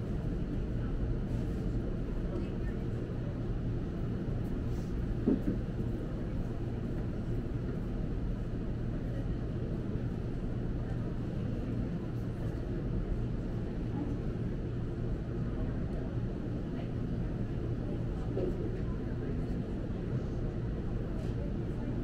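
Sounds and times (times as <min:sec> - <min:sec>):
distant murmur of voices: 0:00.0 - 0:22.0
low indoor store rumble: 0:00.0 - 0:22.0.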